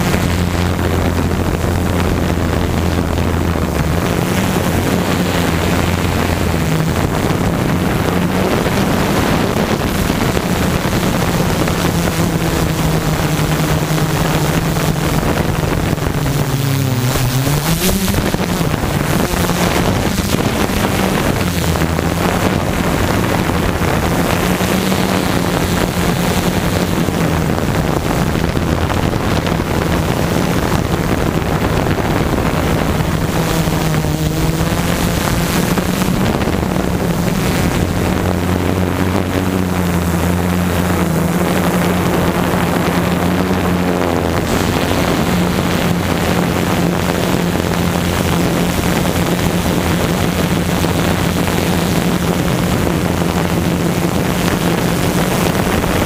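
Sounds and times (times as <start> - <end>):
drone motors humming: 0.0 - 56.0
wind rushing over microphone: 0.0 - 56.0.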